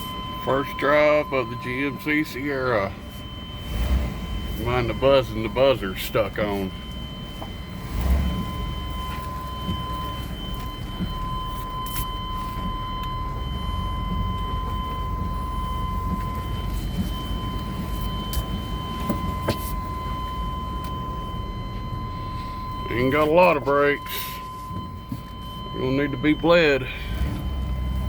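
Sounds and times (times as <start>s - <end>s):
dashboard warning buzzer: 0.0s - 28.0s
truck engine and road rumble: 0.0s - 28.0s.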